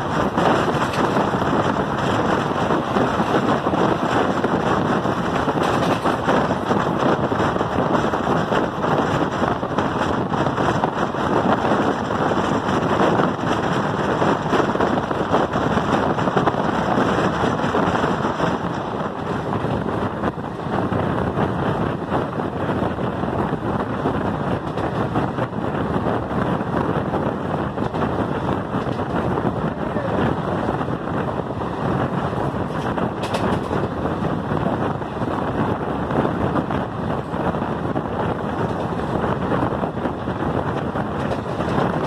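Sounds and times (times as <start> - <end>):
train running noise: 0.0 - 42.0
wind on microphone: 0.0 - 42.0.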